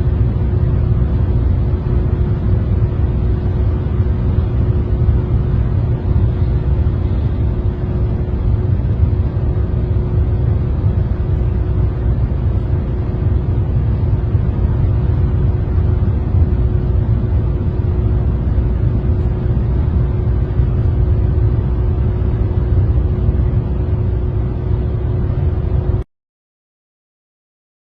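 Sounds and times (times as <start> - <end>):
constant hum: 0.0 - 26.1
steady low rumble: 0.0 - 26.1.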